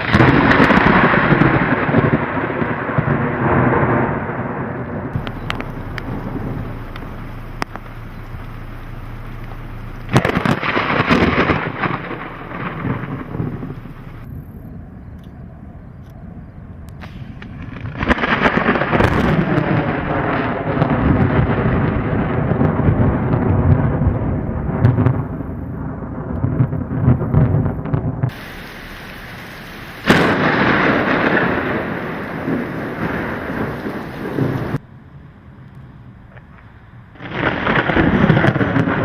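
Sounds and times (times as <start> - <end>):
thunder rumbling and cracking: 0.0 - 39.0.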